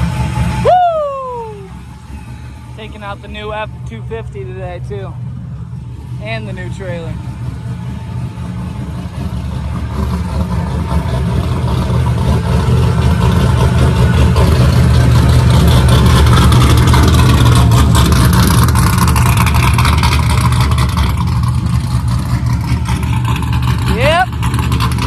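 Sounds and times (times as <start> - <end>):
vehicle engine running under load: 0.0 - 25.0.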